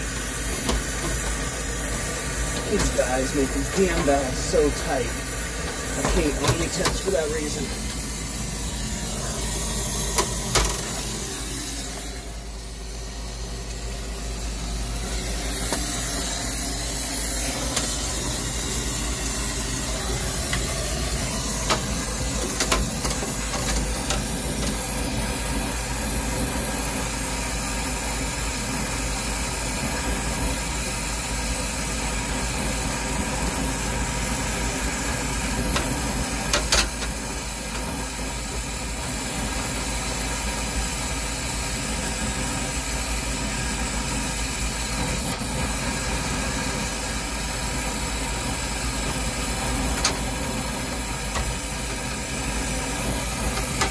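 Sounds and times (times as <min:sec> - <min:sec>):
torch flame hissing: 0:00.0 - 0:53.9.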